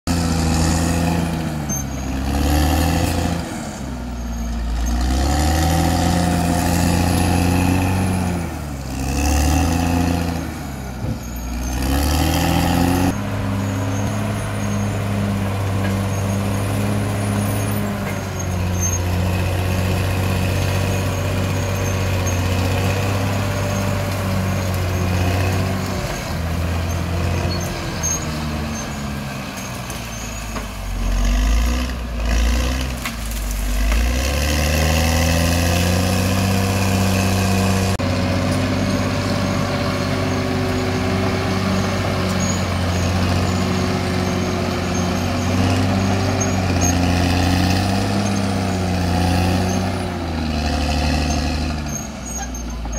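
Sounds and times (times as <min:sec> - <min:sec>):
bulldozer diesel engine running: 0:00.1 - 0:52.9.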